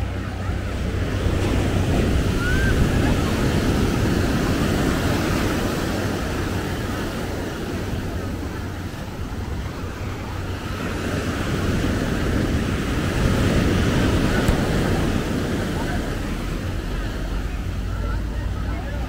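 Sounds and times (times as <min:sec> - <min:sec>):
ocean surf washing onto beach: 0:00.0 - 0:19.0
wind rumbling on microphone: 0:00.0 - 0:19.0.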